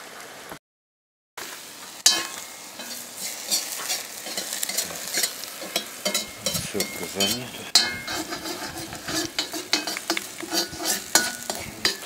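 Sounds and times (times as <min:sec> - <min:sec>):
vegetables sizzling in oil: 0:00.0 - 0:00.6, 0:01.4 - 0:12.0
spoon scraping a pot: 0:02.1 - 0:12.0.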